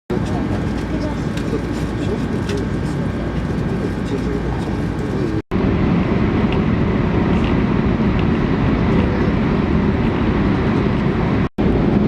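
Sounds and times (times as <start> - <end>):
vehicle rumbling: 0.1 - 12.0.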